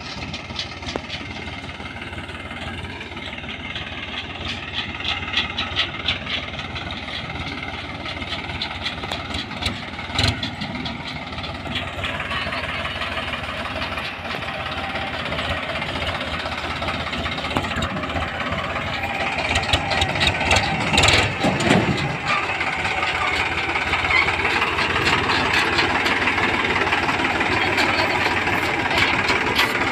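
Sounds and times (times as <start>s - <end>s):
clanking: 0.0s - 29.9s
tractor diesel engine running: 0.0s - 29.9s.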